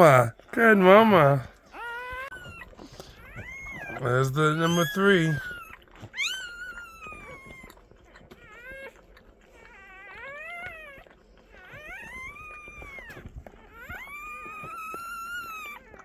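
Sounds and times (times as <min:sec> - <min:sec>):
puppies crying: 0:00.0 - 0:16.0.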